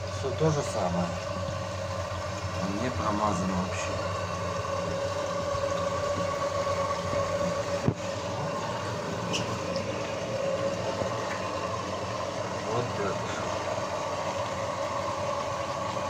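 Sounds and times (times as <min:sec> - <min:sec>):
pump humming: 0:00.0 - 0:16.0.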